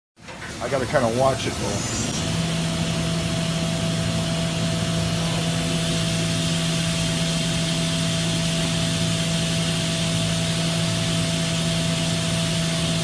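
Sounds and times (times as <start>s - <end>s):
machine hum: 0.2s - 13.0s.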